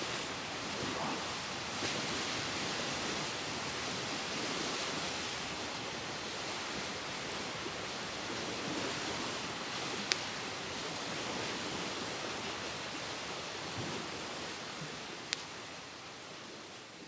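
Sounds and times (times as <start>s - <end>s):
rushing wind or water: 0.0s - 17.0s.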